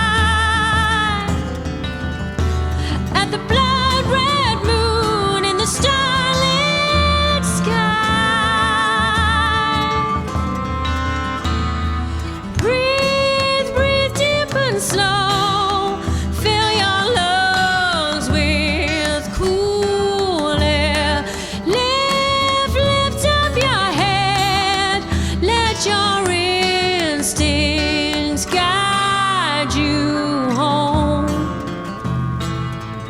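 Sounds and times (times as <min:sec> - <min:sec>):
pulsing bass notes: 0:00.0 - 0:33.0
sliding lead melody with vibrato: 0:00.0 - 0:33.0.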